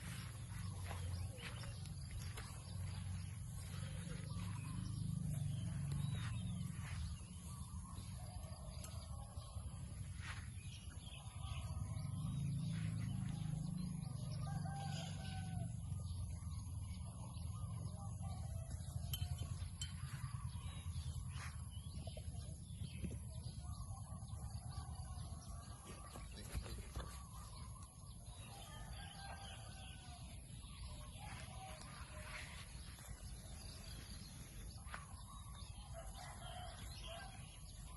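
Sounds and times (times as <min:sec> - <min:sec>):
steady low rumble: 0:00.0 - 0:24.4, 0:30.2 - 0:37.9
small birds chirping: 0:00.0 - 0:37.9.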